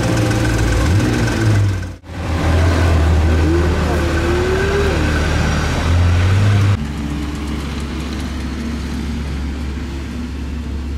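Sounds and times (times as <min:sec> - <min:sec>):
car engine low drone: 0:00.0 - 0:10.9.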